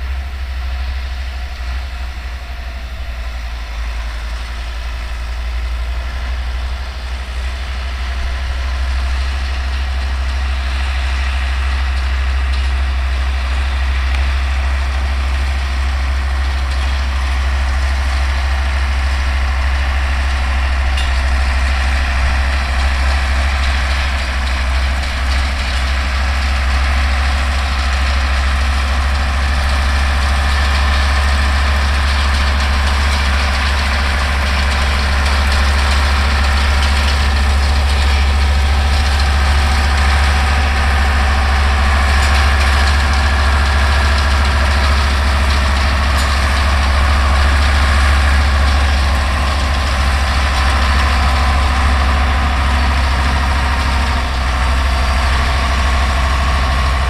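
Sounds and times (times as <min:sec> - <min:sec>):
baler machinery running: 0:00.0 - 0:57.0
tractor diesel engine running: 0:00.0 - 0:57.0.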